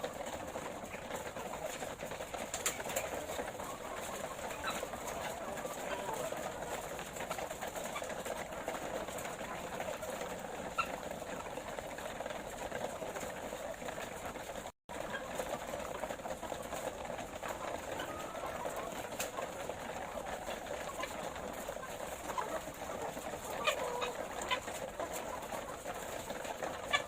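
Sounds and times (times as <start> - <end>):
hens clucking: 0.0 - 27.0.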